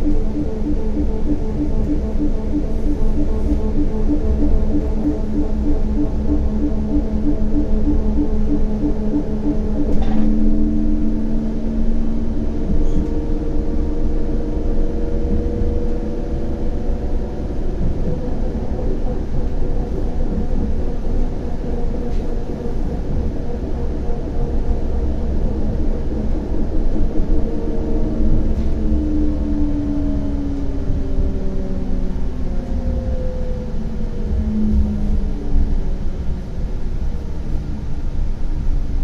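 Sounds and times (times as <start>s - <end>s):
tram wheels rumbling on rail: 0.0s - 39.0s.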